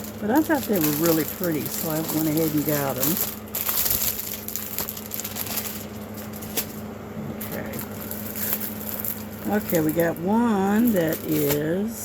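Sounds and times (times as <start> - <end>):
low background hum: 0.0 - 12.0
packages rustling and crinkling: 0.0 - 12.0.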